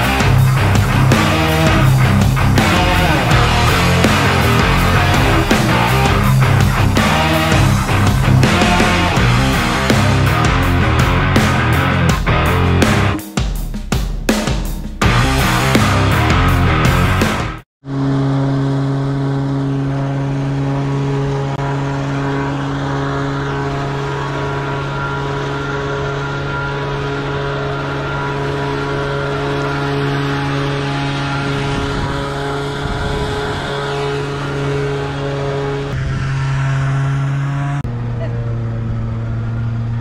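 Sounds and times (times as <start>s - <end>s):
engine droning: 0.0s - 13.2s, 15.0s - 40.0s.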